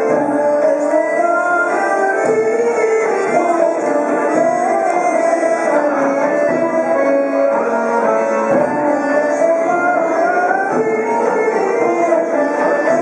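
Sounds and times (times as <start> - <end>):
accordion: 0.0 - 13.0
hammered dulcimer: 0.0 - 13.0.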